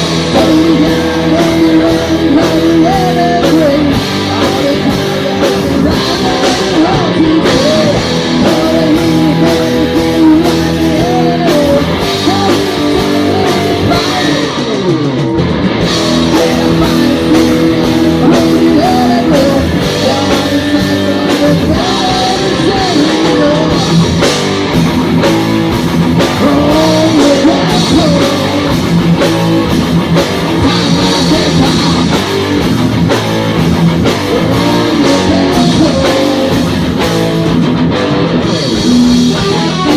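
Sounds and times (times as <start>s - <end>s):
person singing: 0.0s - 15.2s, 15.8s - 24.3s, 26.2s - 32.6s, 34.0s - 37.6s, 38.4s - 39.9s
drum kit: 0.0s - 39.9s
electric guitars: 0.0s - 39.9s.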